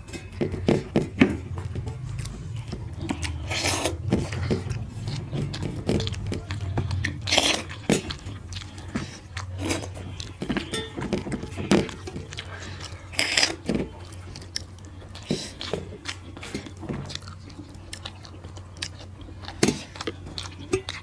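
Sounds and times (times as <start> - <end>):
chewing and mouth smacks: 0.4 - 21.0.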